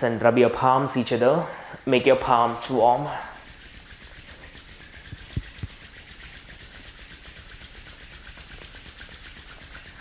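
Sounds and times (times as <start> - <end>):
palms rubbing together: 0.7 - 10.0.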